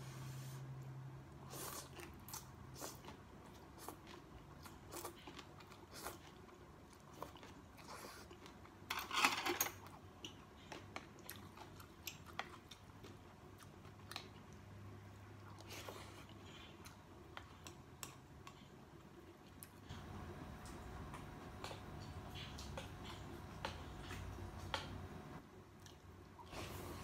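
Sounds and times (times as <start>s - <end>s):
person chewing: 1.4s - 8.8s, 9.9s - 27.0s.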